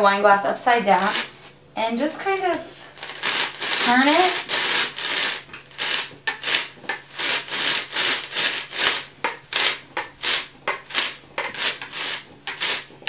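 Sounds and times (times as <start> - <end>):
glass rim rasping into styrofoam: 0.9 - 1.4, 3.0 - 13.0.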